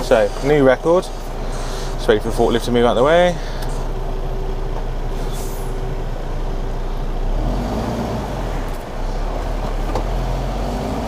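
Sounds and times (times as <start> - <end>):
diesel engine idling: 0.0 - 11.0
forklift working: 0.0 - 11.0.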